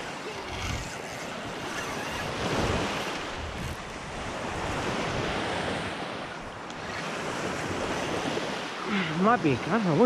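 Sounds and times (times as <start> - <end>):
wind on microphone: 0.3 - 8.5.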